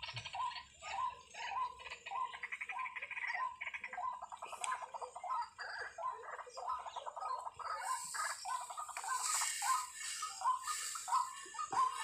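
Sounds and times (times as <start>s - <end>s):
croaking animal calls: 0.0s - 12.0s.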